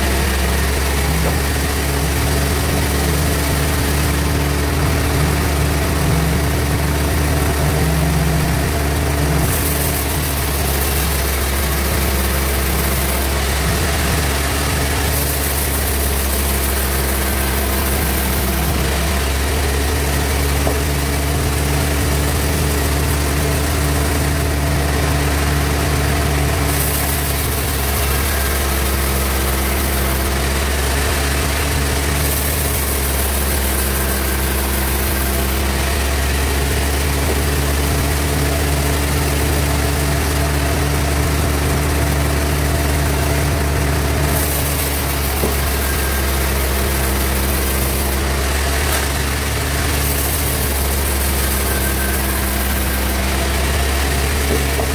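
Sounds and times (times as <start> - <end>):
bandsaw humming: 0.0 - 54.9.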